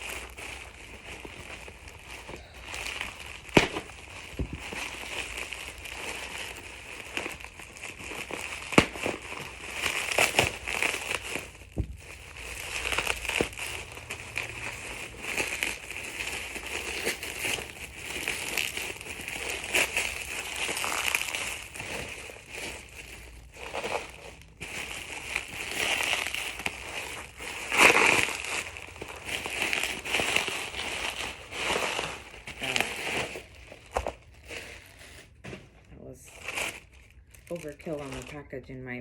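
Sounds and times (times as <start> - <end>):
packaging crinkling and rustling: 0.0 - 39.0.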